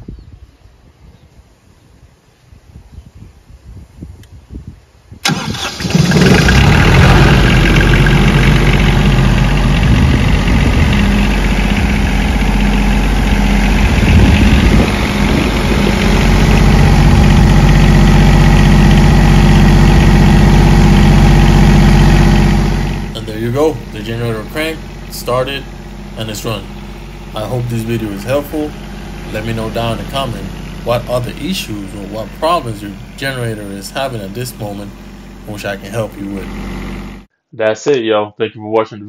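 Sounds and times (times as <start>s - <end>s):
diesel generator engine starting: 5.2s - 37.3s.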